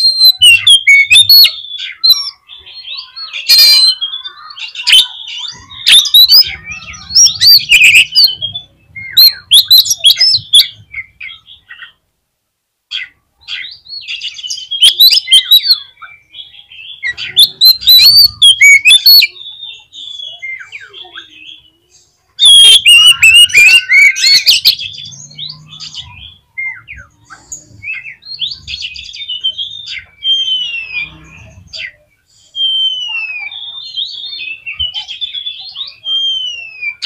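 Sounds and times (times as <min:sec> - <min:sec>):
bird singing whistles and chirps: 0:00.0 - 0:12.0, 0:12.9 - 0:37.0.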